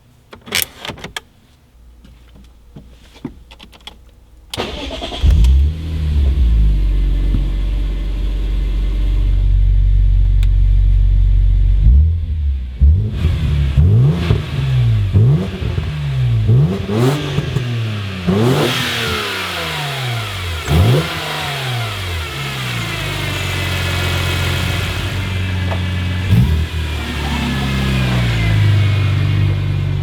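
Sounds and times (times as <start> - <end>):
car engine revving: 4.6 - 10.7, 11.3 - 30.0.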